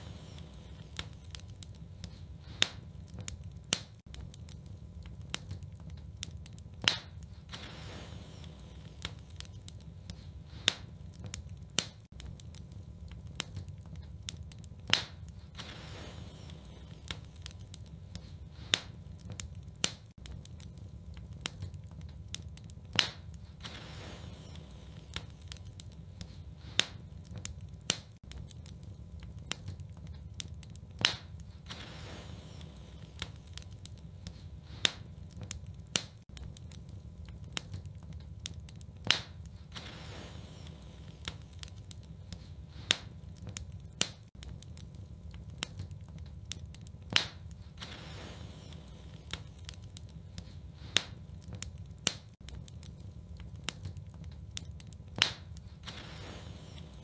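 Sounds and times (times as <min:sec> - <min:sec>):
sharp fire pop: 0:00.0 - 0:04.4, 0:05.2 - 0:12.3, 0:13.3 - 0:20.6, 0:21.2 - 0:28.6, 0:29.4 - 0:36.6, 0:37.5 - 0:44.8, 0:45.5 - 0:52.8, 0:53.6 - 0:57.0
low fire rumble: 0:00.0 - 0:57.0
wood fire crackling: 0:00.0 - 0:57.0.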